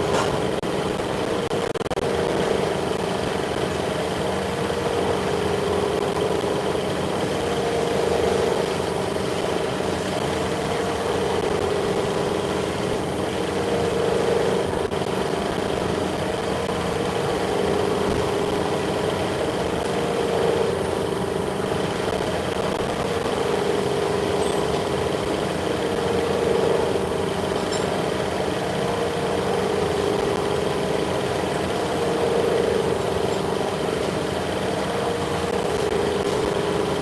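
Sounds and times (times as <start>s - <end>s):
high whine: 0.0s - 37.0s
machinery hum: 0.0s - 37.0s.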